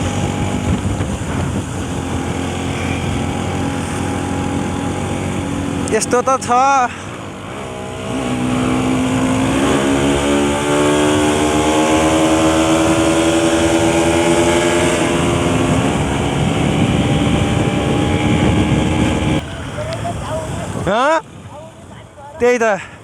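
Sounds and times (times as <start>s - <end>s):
motorcycle engine running: 0.0s - 6.6s, 7.3s - 21.0s.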